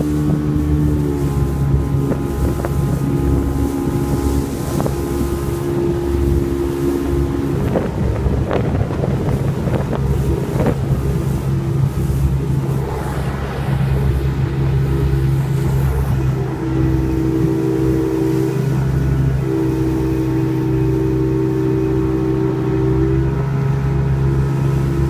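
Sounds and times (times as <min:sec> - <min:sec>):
motorboat engine running: 0:00.0 - 0:25.0
wind buffeting microphone: 0:00.0 - 0:25.0.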